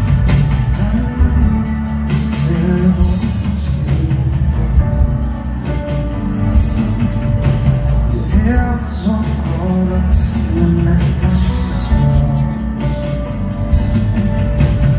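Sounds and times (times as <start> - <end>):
man singing: 0.0 - 5.8, 7.9 - 14.6
drums: 0.0 - 14.9
keyboards: 0.0 - 14.9.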